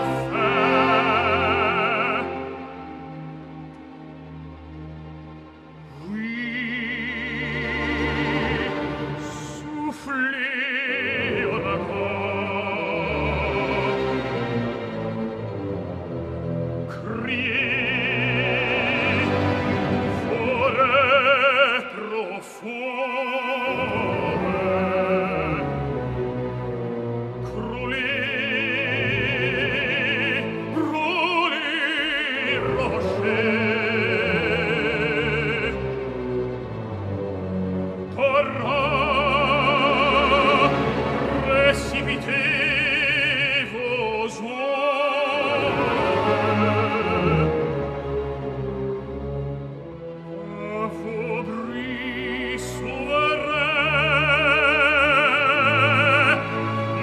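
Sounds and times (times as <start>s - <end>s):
operatic tenor singing: 0.0s - 57.0s
orchestra playing: 0.0s - 57.0s.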